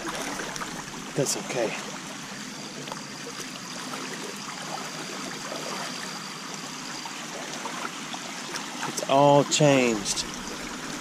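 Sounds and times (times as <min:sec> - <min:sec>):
water trickling over rocks: 0:00.0 - 0:11.0.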